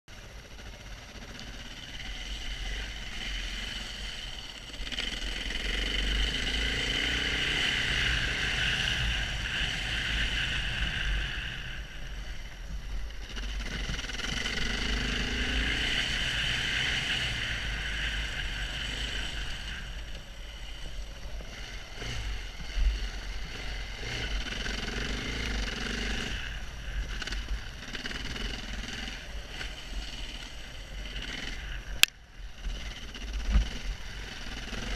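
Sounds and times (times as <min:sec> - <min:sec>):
motorcycle engine off-road: 0:00.1 - 0:34.9.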